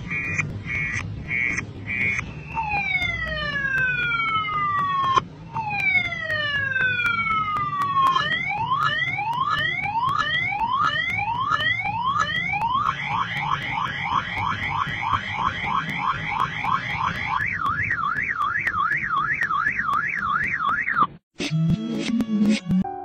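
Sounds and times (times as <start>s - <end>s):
motorcycle alarm siren: 0.1s - 21.2s.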